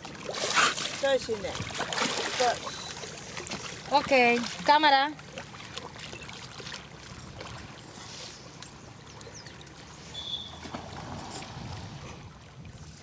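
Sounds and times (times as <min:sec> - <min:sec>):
water lapping and sloshing: 0:00.0 - 0:13.0.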